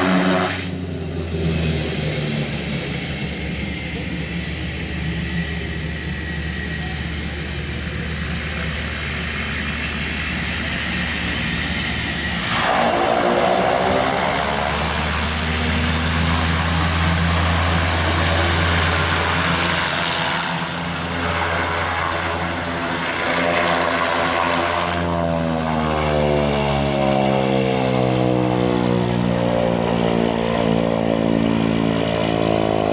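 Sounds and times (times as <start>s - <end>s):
airplane engine and airflow: 0.0s - 32.9s.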